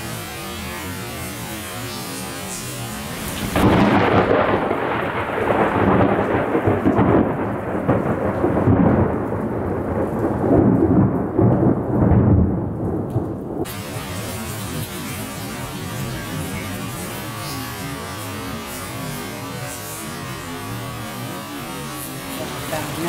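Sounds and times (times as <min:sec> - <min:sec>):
thunder rumbling: 0:00.0 - 0:23.0.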